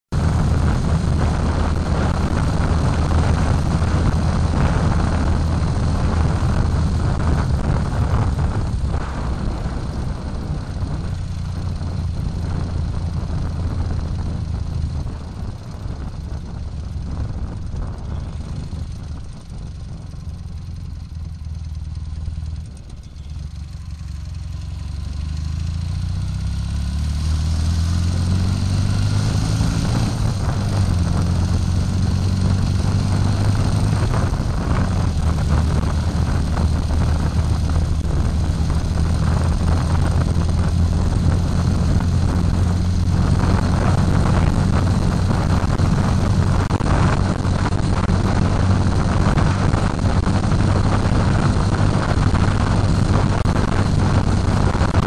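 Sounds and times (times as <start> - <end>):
motorcycle engine running: 0.0 - 55.0
road noise: 0.0 - 55.0
wind noise: 0.1 - 55.0.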